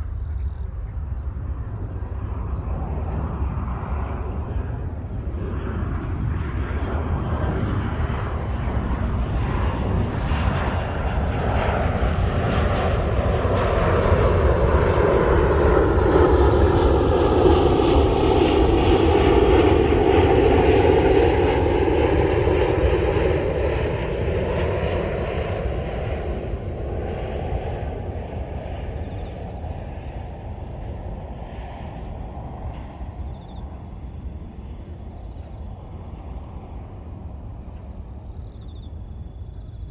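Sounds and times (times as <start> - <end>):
aircraft engine passing overhead: 0.0 - 39.9
crickets chirping: 0.0 - 39.9.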